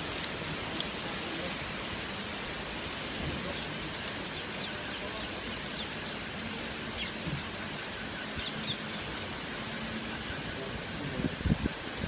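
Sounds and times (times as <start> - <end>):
rain and wind: 0.0 - 12.0.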